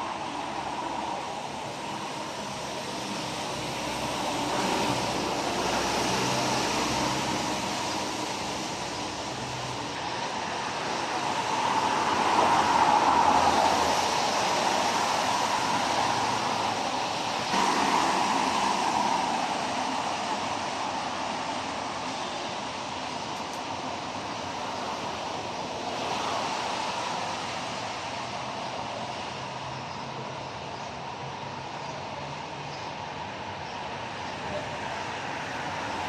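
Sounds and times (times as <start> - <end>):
tyre hiss on wet road: 0.0 - 29.8, 34.8 - 36.0.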